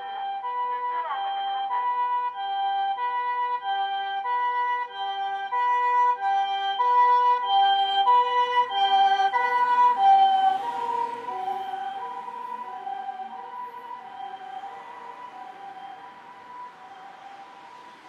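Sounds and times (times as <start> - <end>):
ambulance two-tone siren: 0.0 - 18.0.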